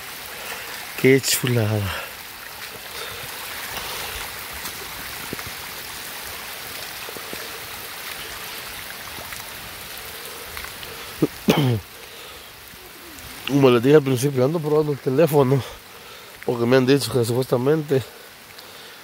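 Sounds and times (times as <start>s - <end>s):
rainwater rushing down road: 0.0s - 19.0s.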